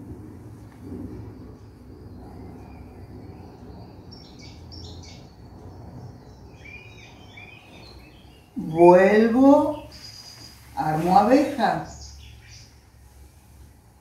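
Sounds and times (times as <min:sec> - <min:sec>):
low steady hum: 0:00.0 - 0:14.0
faint bird chirping: 0:00.8 - 0:14.0.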